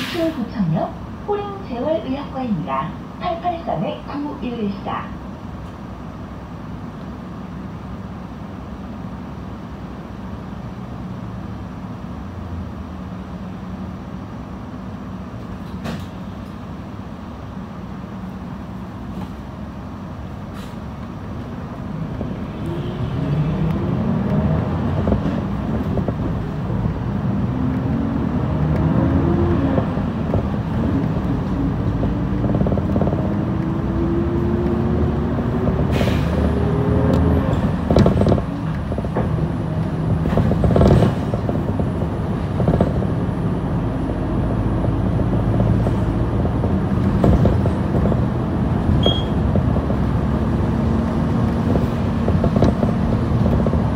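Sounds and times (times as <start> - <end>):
bus engine with rising whine: 0.0 - 53.9.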